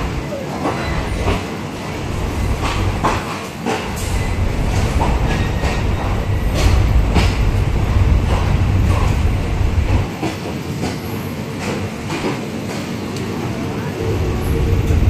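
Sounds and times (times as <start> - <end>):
train wheels clacking over rail joints: 0.0 - 13.3
diesel train engine rumbling: 0.0 - 15.0.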